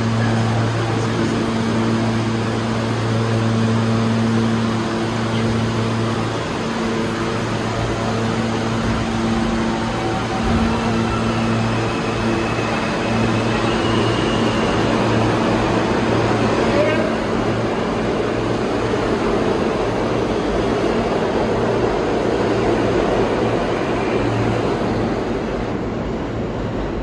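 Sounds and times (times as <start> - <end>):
subway train electrical hum: 0.0 - 27.0.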